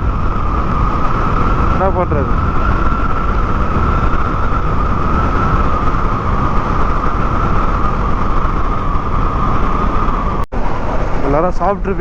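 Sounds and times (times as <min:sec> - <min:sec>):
motorcycle engine whine: 0:00.0 - 0:12.0
wind rumble on microphone: 0:00.0 - 0:12.0.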